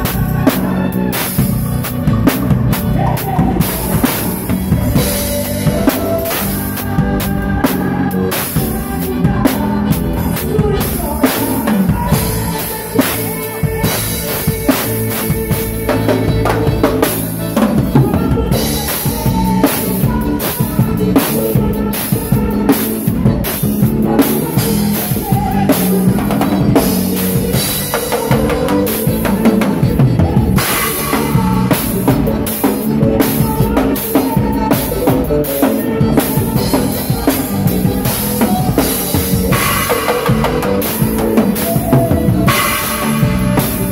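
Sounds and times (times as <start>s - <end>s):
drum kit playing: 0.0s - 43.9s.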